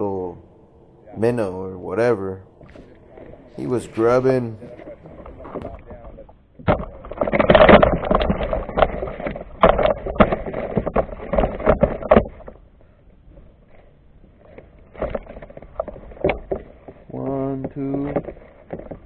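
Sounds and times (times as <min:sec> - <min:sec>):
kayak handling knocks and scrapes: 0:02.6 - 0:19.0.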